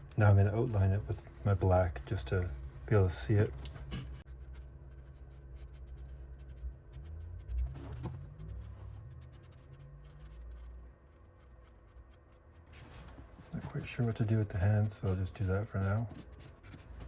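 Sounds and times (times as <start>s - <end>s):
steady low hum: 0.0s - 17.0s
marker scratching on wood: 2.2s - 17.0s.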